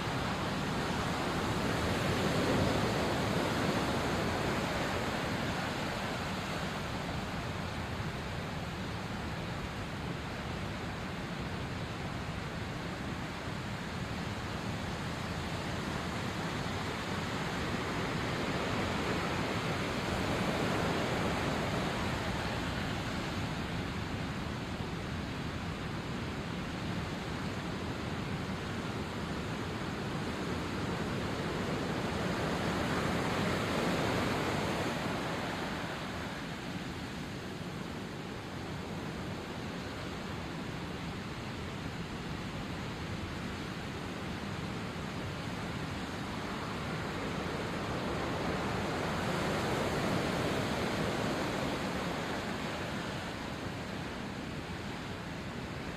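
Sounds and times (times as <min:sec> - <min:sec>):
sea waves washing ashore: 0:00.0 - 0:55.9.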